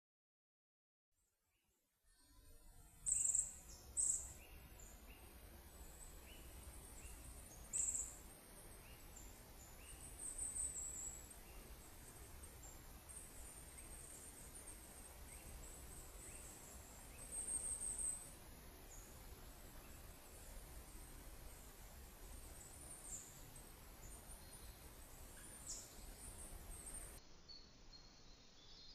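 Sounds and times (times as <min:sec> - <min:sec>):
faint chirps: 0:01.7 - 0:28.9
small birds twittering: 0:02.1 - 0:28.9.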